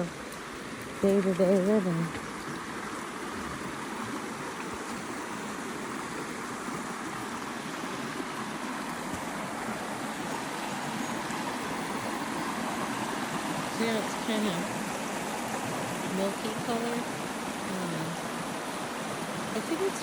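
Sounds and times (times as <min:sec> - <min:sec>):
creek water running: 0:00.0 - 0:20.0.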